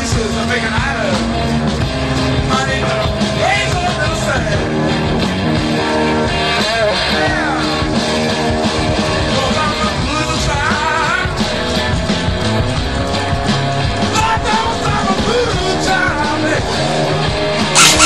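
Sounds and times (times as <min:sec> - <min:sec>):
rock music with vocals: 0:00.0 - 0:18.0.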